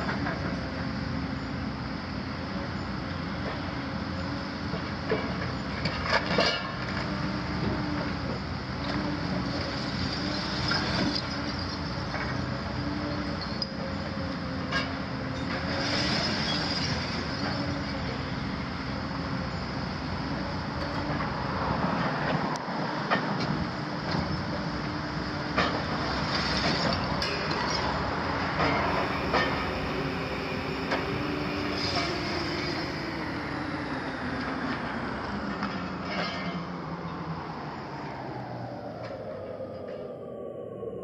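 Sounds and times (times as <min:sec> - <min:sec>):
excavator engine and hydraulics: 0:00.0 - 0:41.0.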